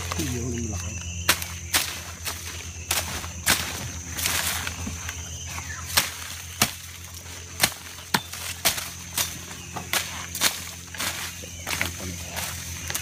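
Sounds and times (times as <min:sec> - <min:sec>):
hand tool chopping into ground: 0:01.2 - 0:13.0.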